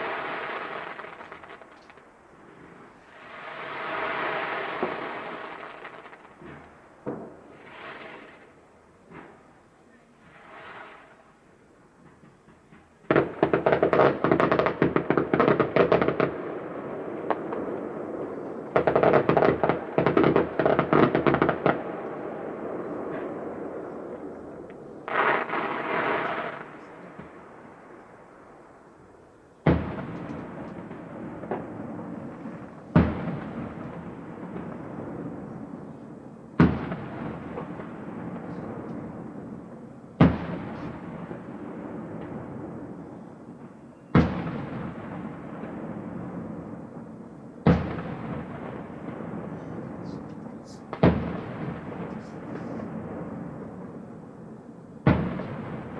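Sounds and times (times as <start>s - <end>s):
fireworks crackling: 0.0s - 11.5s, 12.1s - 55.9s.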